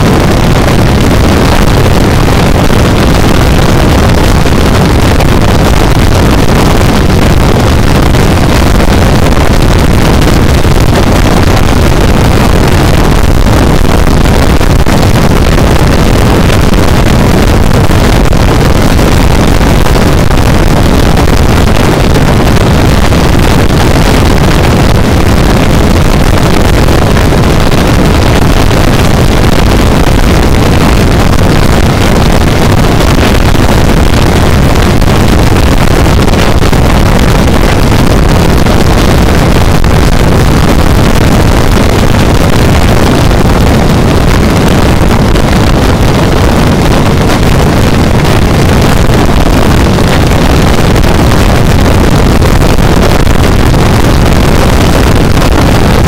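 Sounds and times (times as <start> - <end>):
motorcycle engine drone: 0.0 - 56.0
wind rush on microphone: 0.0 - 56.0.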